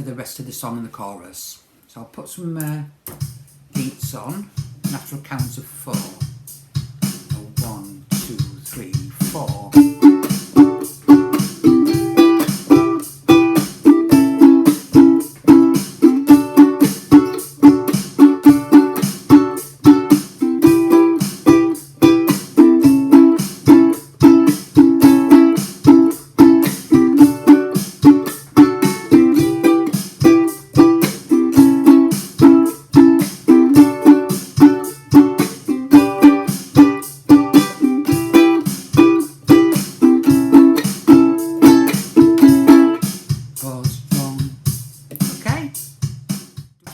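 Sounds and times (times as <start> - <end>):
drum machine beat: 3.0 - 46.9
ukulele strumming: 6.9 - 44.4.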